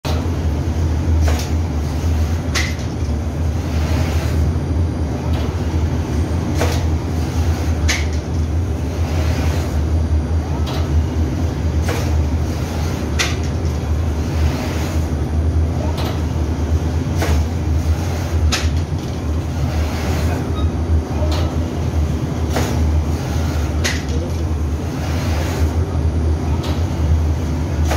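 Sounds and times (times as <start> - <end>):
low machine hum: 0.1 - 27.9.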